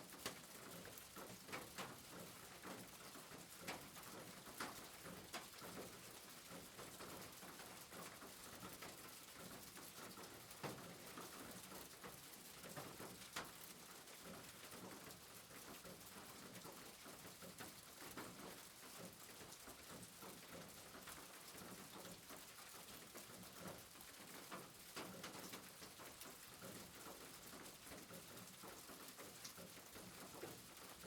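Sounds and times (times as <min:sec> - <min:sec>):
rain patter: 0:00.0 - 0:31.0.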